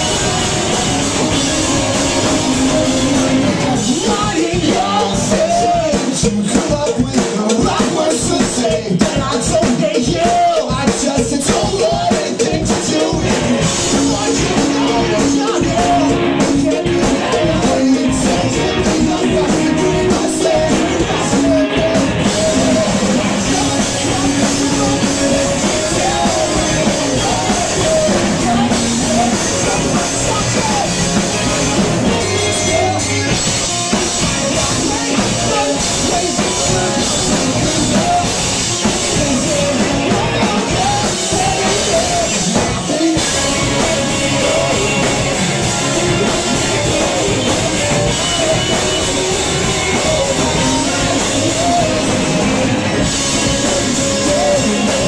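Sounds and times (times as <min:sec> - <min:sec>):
drums: 0:00.0 - 0:55.0
electric guitars: 0:00.0 - 0:55.0
person singing: 0:00.0 - 0:55.0.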